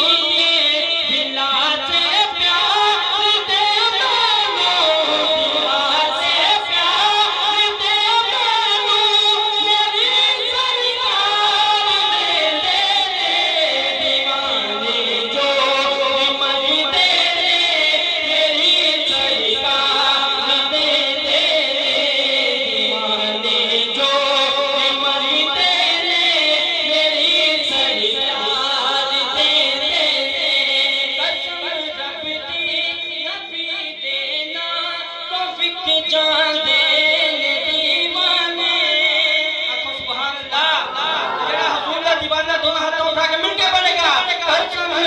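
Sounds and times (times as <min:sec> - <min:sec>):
men singing through microphones: 0:00.0 - 0:45.0.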